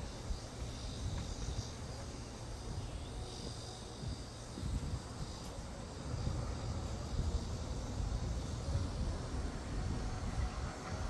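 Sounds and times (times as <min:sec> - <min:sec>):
insects trilling: 0:00.0 - 0:11.0
wind rumbling on microphone: 0:00.0 - 0:11.0.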